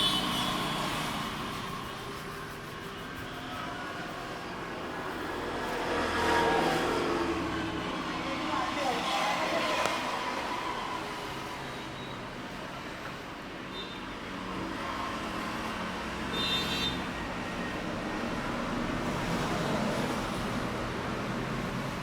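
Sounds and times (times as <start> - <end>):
street traffic passing: 0.0 - 22.0.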